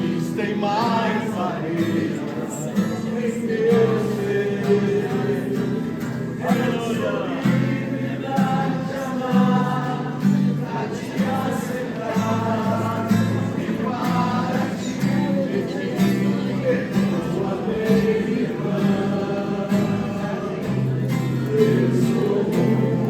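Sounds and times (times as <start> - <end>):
people singing worship music: 0.0 - 23.0.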